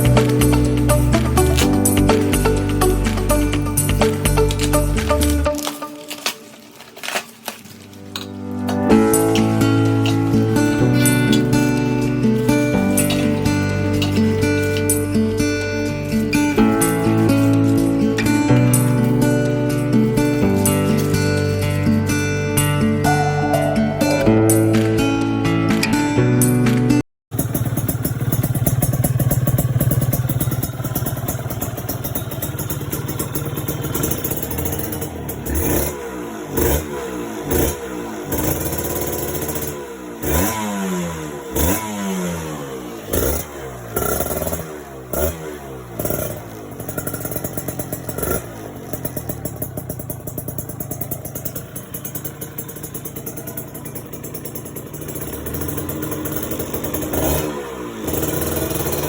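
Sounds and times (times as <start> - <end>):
motorcycle engine revving: 0.0 - 23.2, 27.3 - 59.0.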